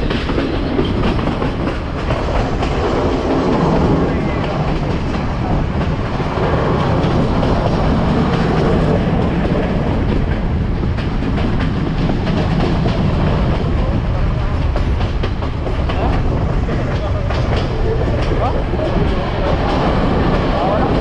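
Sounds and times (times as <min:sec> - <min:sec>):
track clicking: 0:00.0 - 0:21.0
train wheels rumbling on rails: 0:00.0 - 0:21.0.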